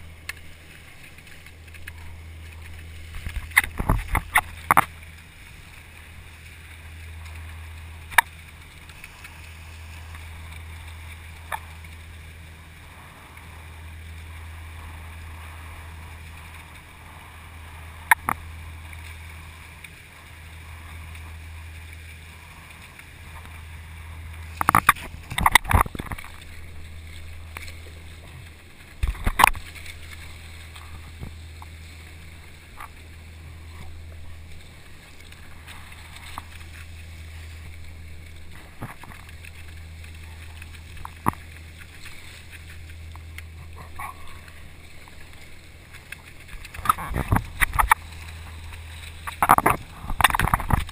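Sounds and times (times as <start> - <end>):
low rumble: 0.0 - 50.9
water rushing past a hull: 0.0 - 50.9.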